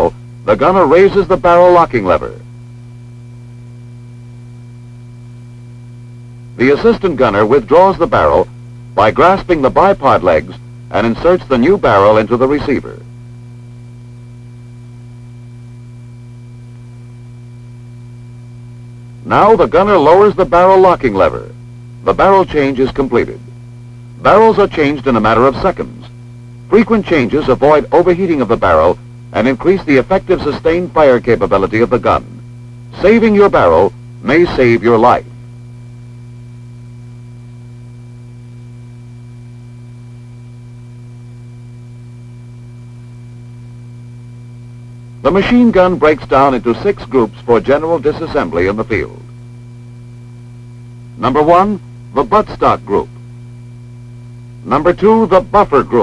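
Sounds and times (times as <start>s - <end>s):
electrical hum: 0.0s - 56.0s
faint high steady tones: 0.0s - 56.0s.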